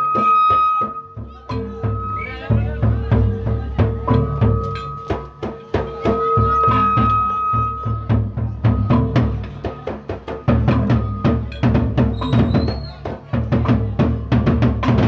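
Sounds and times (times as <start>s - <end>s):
barrel drums struck with sticks: 0.0s - 15.0s.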